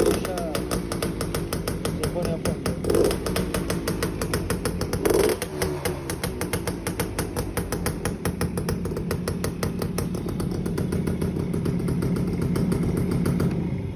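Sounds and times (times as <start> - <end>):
two-stroke motorcycle engine running: 0.0 - 13.9.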